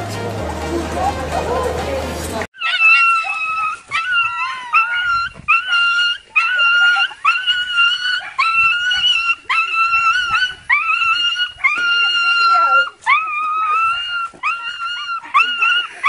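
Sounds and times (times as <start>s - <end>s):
dog whining: 2.6s - 16.0s.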